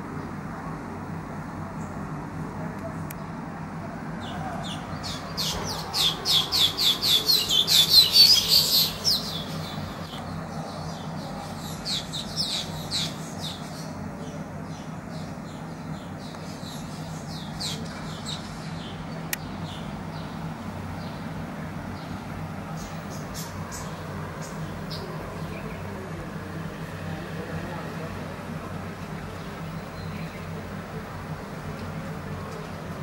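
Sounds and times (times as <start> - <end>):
birds chattering with high calls: 0.0 - 33.0.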